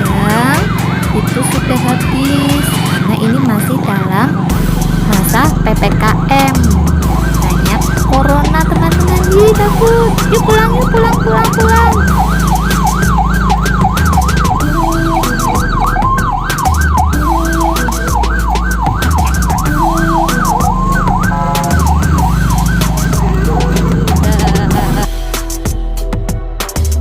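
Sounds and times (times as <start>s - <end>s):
police siren yelping: 0.0s - 25.1s.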